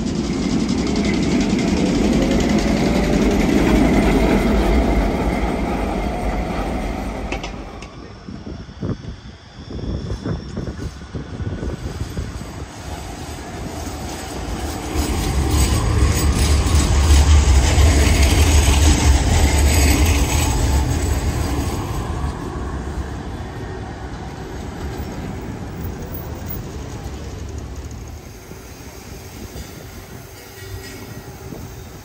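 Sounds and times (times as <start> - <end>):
tram rumbling on rails: 0.0 - 32.0.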